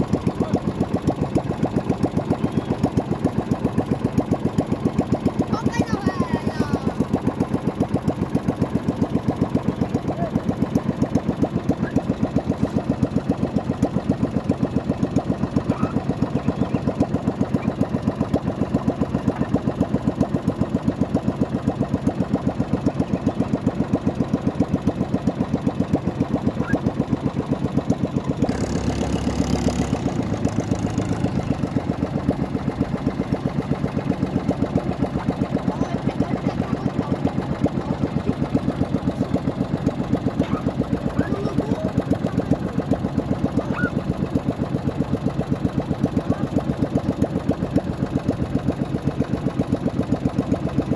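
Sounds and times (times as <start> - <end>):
small boat motor running: 0.0 - 50.9.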